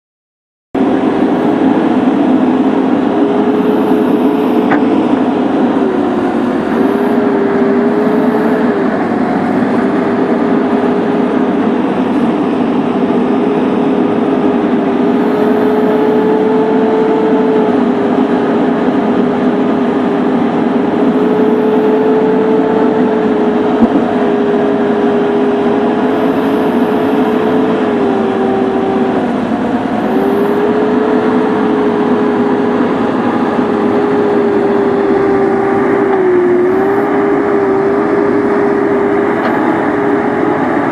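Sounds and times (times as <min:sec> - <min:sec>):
excavator diesel engine under load: 0:00.8 - 0:40.9.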